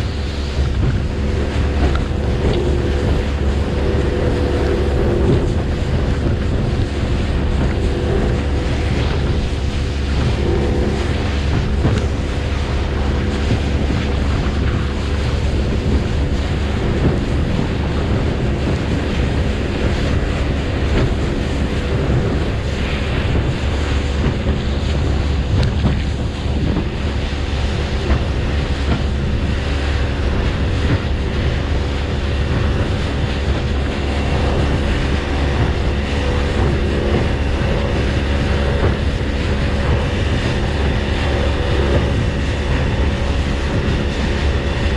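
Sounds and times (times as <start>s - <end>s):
motorboat engine drone: 0.0s - 44.9s
water rushing from hull: 0.0s - 44.9s
wind buffeting microphone: 0.0s - 44.9s.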